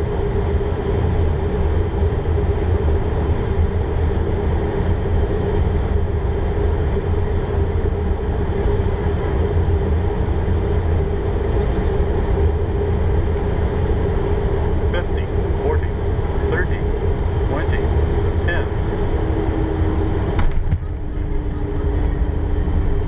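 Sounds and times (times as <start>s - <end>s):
cockpit air rushing drone: 0.0s - 23.0s
steady hum: 0.0s - 23.0s.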